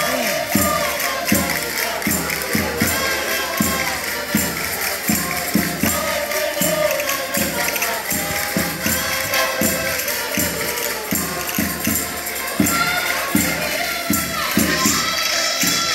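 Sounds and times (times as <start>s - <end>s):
group singing in mixed voices: 0.0s - 15.9s
tambourines jingling: 0.0s - 15.9s.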